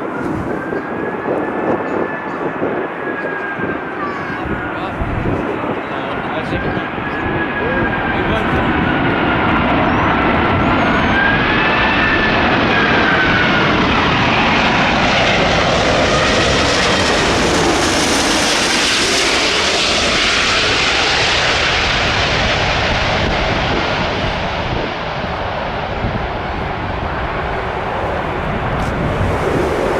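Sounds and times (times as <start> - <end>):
jet engines whining and rushing: 0.0 - 29.9.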